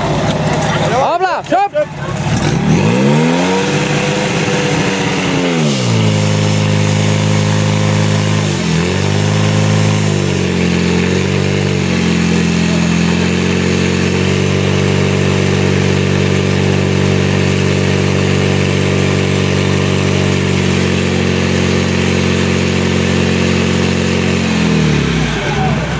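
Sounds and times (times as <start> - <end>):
pump engine running at high revs: 0.0 - 25.9.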